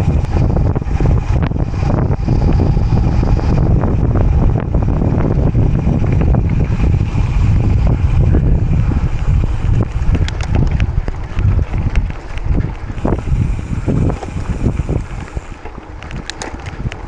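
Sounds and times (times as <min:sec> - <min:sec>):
bike clicks and rattles: 0:00.0 - 0:17.0
bike tyre rumble on dirt: 0:00.0 - 0:17.0
wind buffeting microphone: 0:00.0 - 0:17.0.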